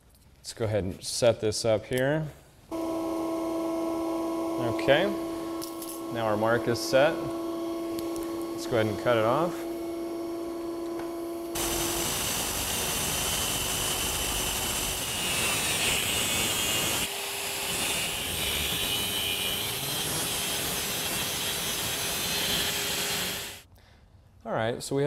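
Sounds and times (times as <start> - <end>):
steady hum: 2.7 - 23.6
angle grinder cutting metal shaft: 2.7 - 23.7.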